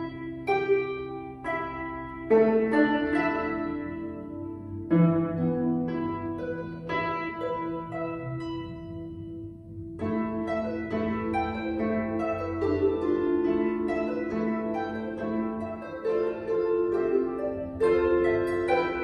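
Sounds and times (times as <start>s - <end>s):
harp playing: 0.0s - 19.0s.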